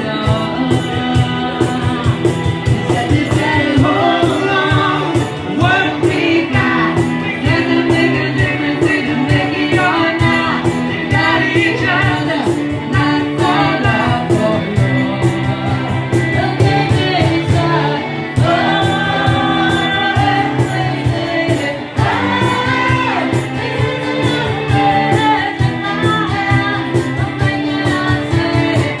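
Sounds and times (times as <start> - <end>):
instrumental backing with beat: 0.0 - 29.0
woman singing: 0.0 - 29.0.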